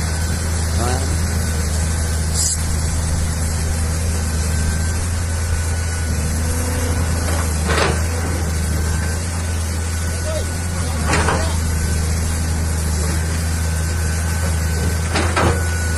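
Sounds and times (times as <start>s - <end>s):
excavator diesel engine running: 0.0s - 15.9s.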